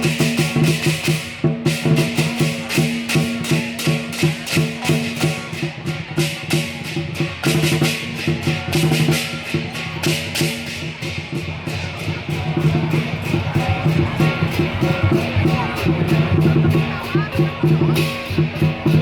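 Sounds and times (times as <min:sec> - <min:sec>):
lively music with drums: 0:00.0 - 0:19.0.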